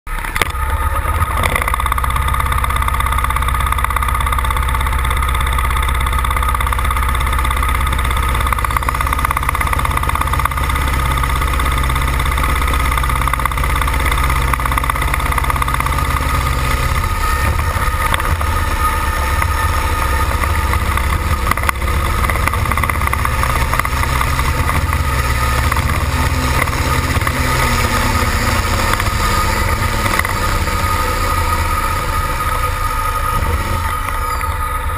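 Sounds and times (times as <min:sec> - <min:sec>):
tractor engine rumbling: 0:00.1 - 0:34.9.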